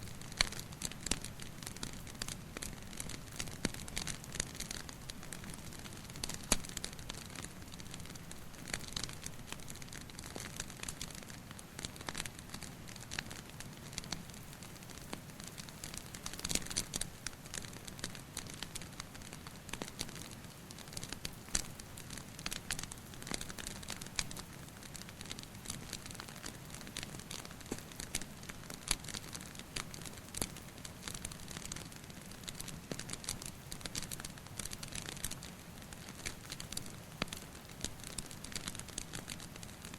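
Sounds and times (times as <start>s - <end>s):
dripping rain: 0.0s - 39.9s
wood fire crackling: 0.0s - 39.9s.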